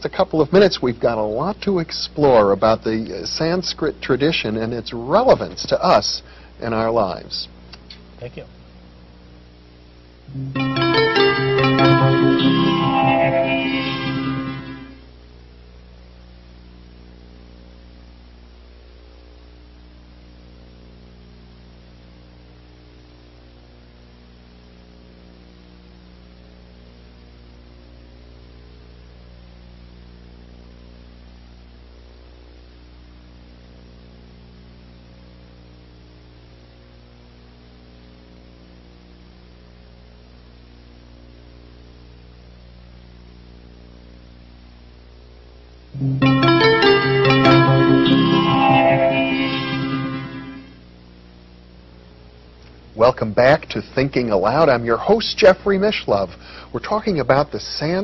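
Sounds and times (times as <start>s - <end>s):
constant hiss: 0.0s - 58.0s
electrical mains hum: 0.0s - 58.0s.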